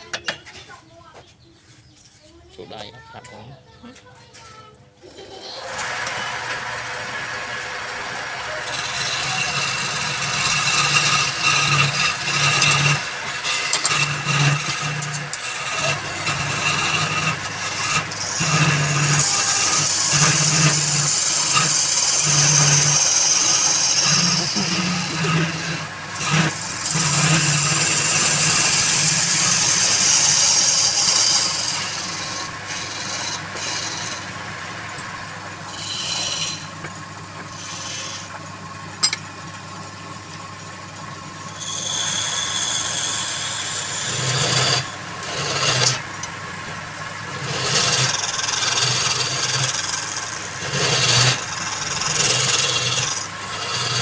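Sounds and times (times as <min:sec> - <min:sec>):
wood lathe cutting rasp: 0:05.0 - 0:39.2, 0:41.4 - 0:54.0.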